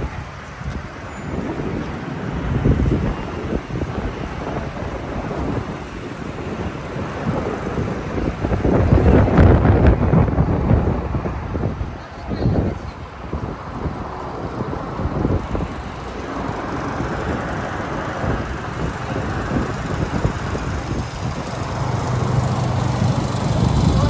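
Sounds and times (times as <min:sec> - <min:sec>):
city street traffic: 0:00.0 - 0:24.0
low engine hum: 0:00.0 - 0:24.0
wind buffeting microphone: 0:00.0 - 0:24.0.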